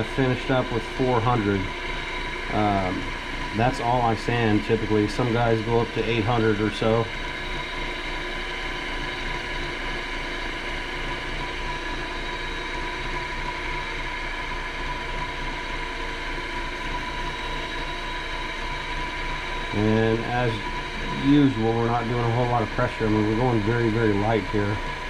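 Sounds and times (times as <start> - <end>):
wood lathe motor humming: 0.0 - 25.0.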